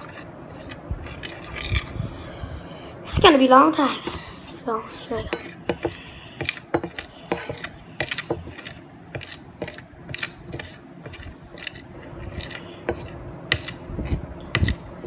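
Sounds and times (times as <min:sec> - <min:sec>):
metal spoon scraping thick paste: 0:00.0 - 0:02.0, 0:04.0 - 0:15.0.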